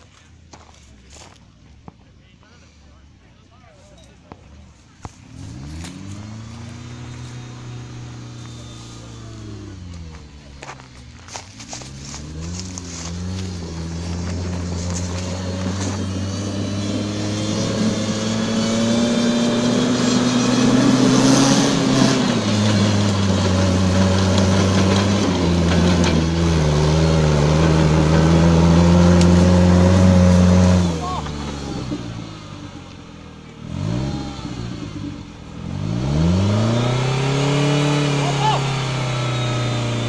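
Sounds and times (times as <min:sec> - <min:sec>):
engine at high revs: 0:04.7 - 0:40.0.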